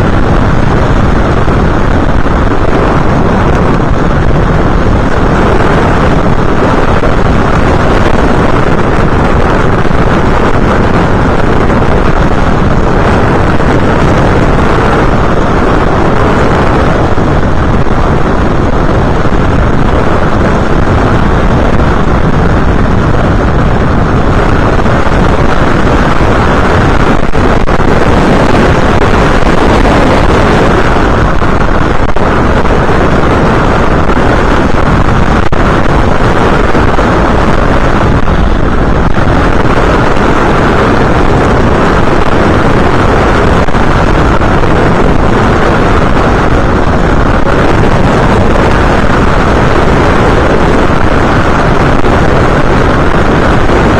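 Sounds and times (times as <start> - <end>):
propeller noise: 0.0 - 53.9
wind rush: 0.0 - 53.9.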